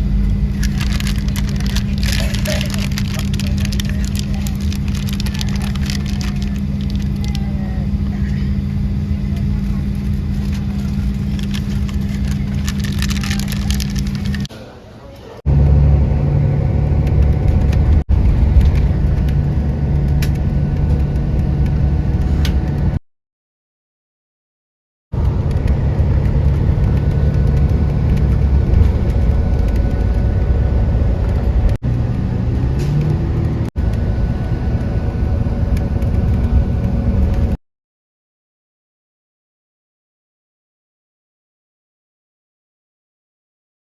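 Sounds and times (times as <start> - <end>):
steady hum tones: 0.0 - 23.0, 25.2 - 37.6
vehicle engine rumble: 0.0 - 23.0, 25.2 - 37.6.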